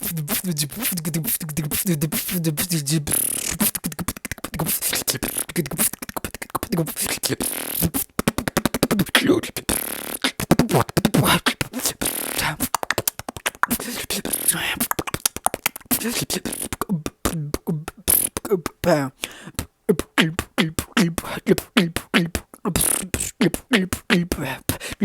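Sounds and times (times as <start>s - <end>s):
man beatboxing: 0.0s - 25.0s.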